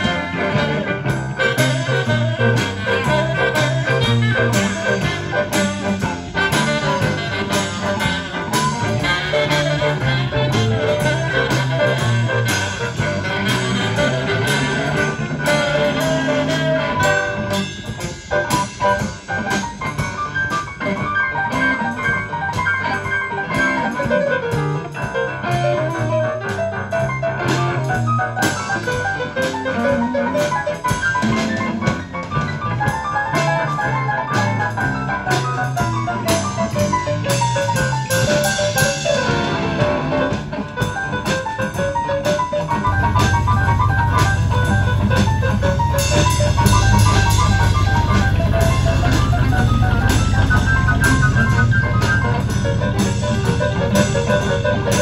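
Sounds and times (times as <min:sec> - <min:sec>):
rock and roll band playing: 0:00.0 - 0:55.0.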